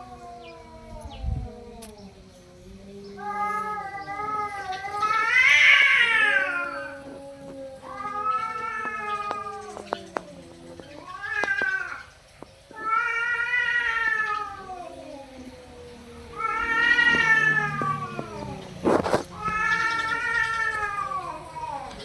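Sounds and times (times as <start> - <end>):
cats yowling: 0.0 - 1.9, 3.2 - 22.0.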